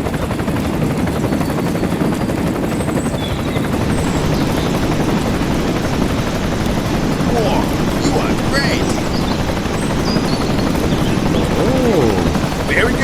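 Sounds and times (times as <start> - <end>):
small motor fluttering whirr: 0.9 - 13.0.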